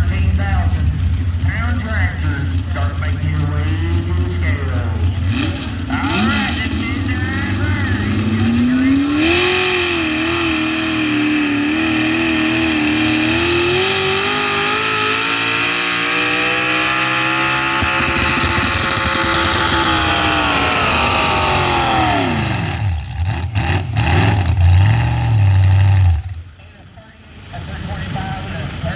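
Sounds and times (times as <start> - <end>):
truck engine revving high: 0.0 - 26.6.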